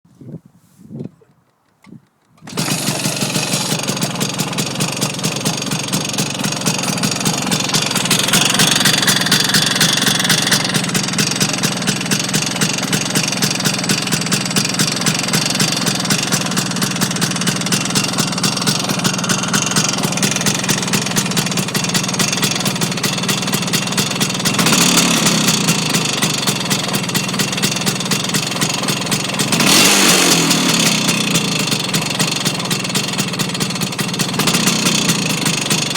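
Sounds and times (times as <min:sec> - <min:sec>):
scooter engine idling with knock: 0:02.2 - 0:35.9.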